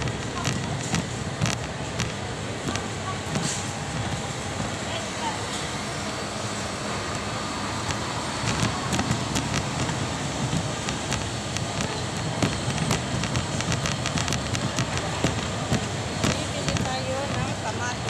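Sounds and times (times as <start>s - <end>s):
sharp clicks and knocks: 0.0s - 4.9s, 7.1s - 17.6s
shopping trolley rolling and rattling: 0.0s - 18.0s.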